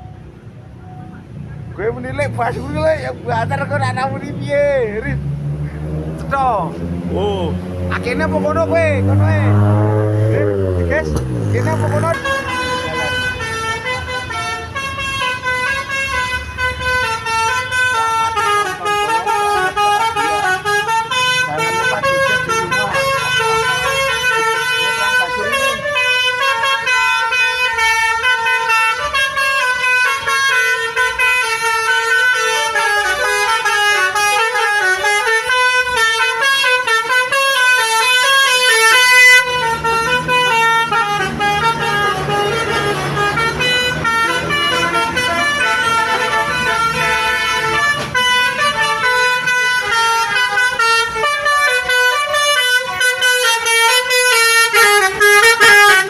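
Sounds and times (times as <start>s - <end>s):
musical bus horn melody: 7.5s - 56.0s.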